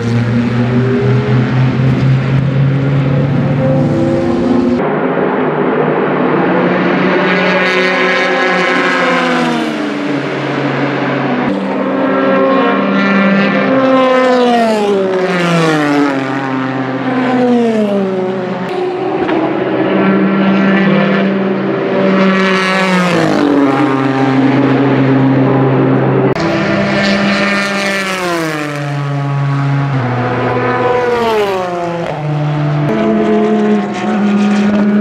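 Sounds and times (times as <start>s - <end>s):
race cars passing at high revs: 0.0s - 35.0s.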